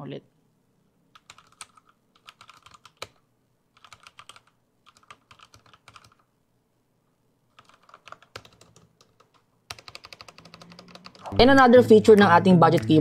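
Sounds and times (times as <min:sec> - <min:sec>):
mechanical keyboard typing: 0:01.2 - 0:06.3, 0:07.5 - 0:13.0.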